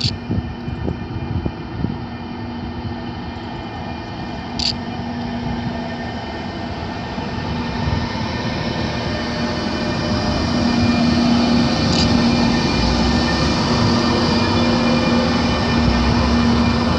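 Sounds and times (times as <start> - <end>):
train rumbling and humming: 0.0 - 16.9.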